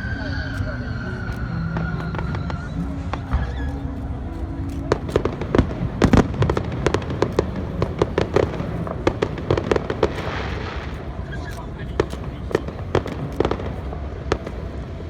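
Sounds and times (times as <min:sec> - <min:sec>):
fireworks popping and banging: 0:01.2 - 0:15.0.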